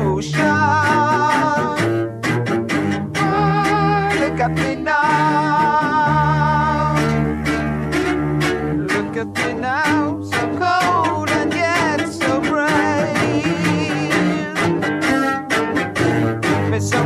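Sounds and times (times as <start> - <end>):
bowed string music: 0.0 - 17.0.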